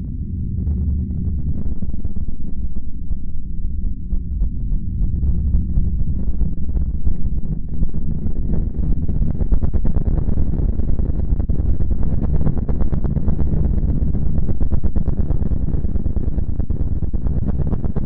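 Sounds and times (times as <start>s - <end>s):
deep rumble: 0.0s - 18.0s.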